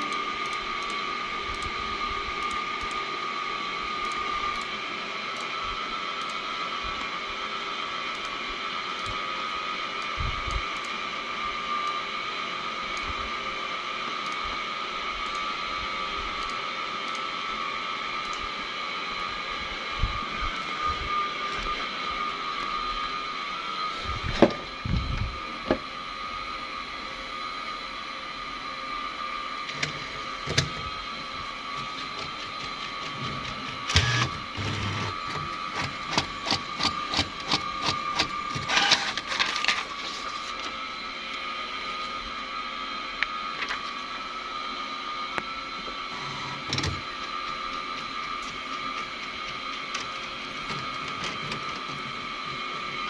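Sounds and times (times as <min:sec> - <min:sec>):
printer running with high whine: 0:00.0 - 0:53.0.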